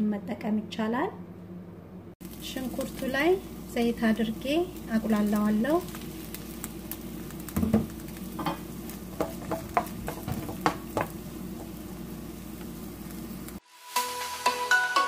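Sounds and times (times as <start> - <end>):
onion sizzling in frying pan: 2.2 - 14.7.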